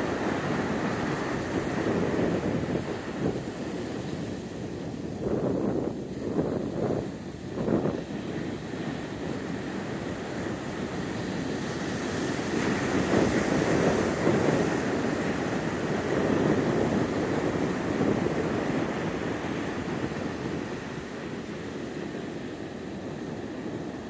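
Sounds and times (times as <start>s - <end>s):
surf breaking on beach: 0.0s - 24.0s.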